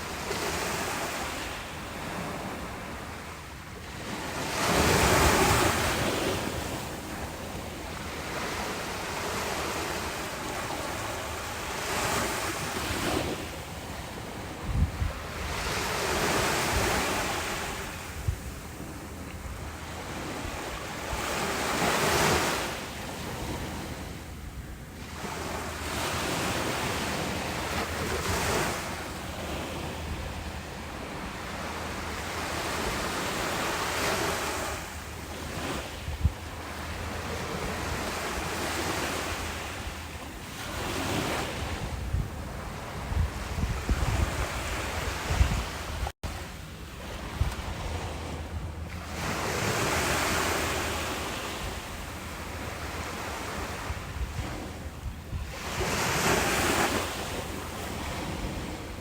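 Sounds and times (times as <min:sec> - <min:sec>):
ocean waves breaking: 0:00.0 - 0:59.0
wind rumbling on microphone: 0:04.0 - 0:59.0.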